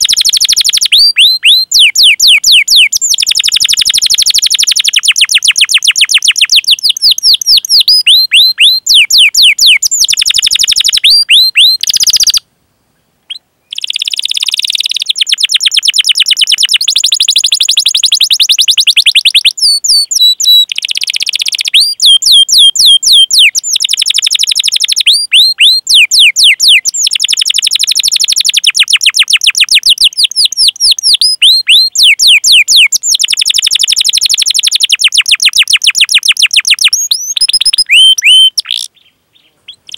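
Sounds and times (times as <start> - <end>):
canary singing: 0.0 - 12.5, 13.3 - 39.9.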